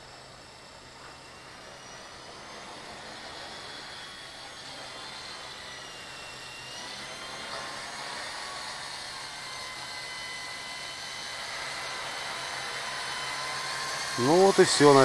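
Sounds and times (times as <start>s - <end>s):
helicopter rotor noise: 0.0s - 15.0s
toy helicopter motor whine: 0.0s - 15.0s.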